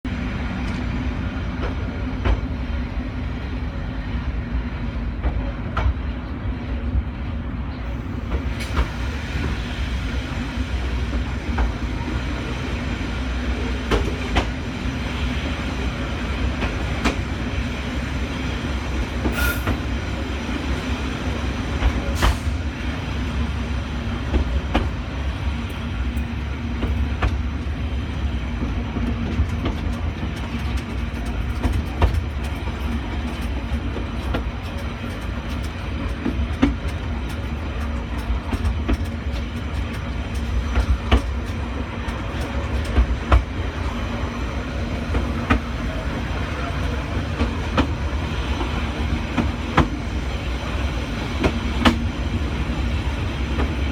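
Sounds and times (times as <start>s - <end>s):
train low rumble: 0.0s - 53.9s.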